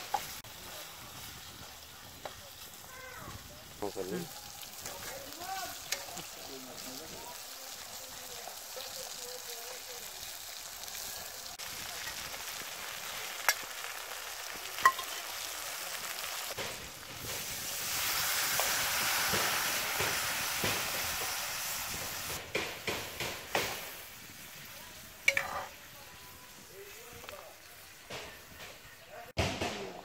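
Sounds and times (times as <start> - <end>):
fish sizzling in pan: 0.0 - 29.2
water hitting hot oil: 0.0 - 29.8.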